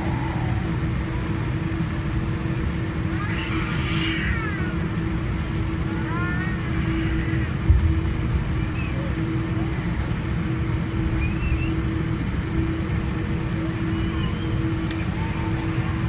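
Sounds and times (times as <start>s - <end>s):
airliner cabin engine rumble: 0.0s - 16.0s
constant hum: 0.0s - 16.0s.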